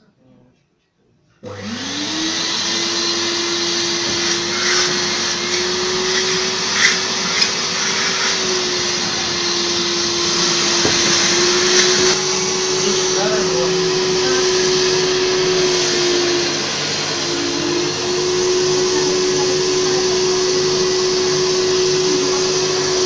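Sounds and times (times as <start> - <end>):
vacuum cleaner motor whining: 1.4 - 23.0.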